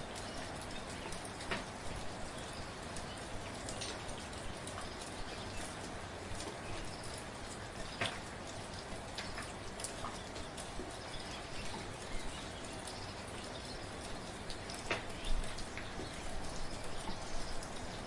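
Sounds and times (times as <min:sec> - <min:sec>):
soft steady rain: 0:00.0 - 0:18.0.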